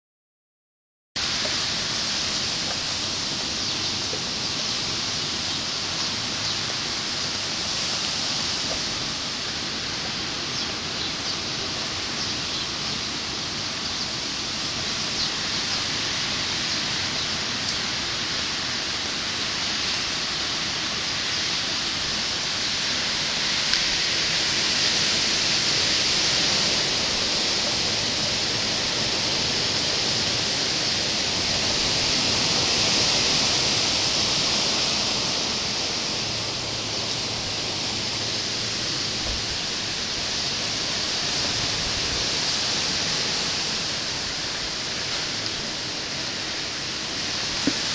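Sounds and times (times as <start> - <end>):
wind and rain in trees: 1.2 - 47.9.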